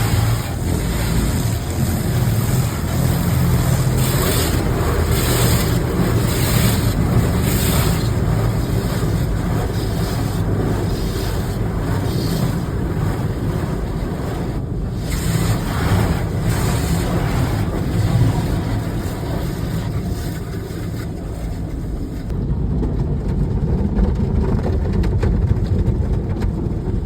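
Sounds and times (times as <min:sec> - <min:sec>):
water spray rushing: 0:00.0 - 0:22.2
low rumble: 0:00.0 - 0:27.0.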